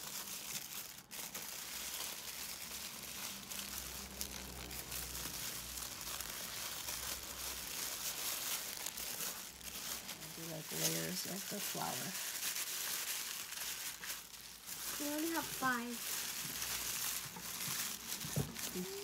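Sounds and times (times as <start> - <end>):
tissue paper rustling and crinkling: 0.0 - 19.0.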